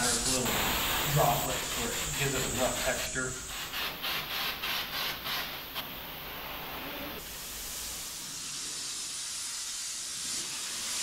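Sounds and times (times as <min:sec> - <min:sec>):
spray gun hissing: 0:00.0 - 0:11.0.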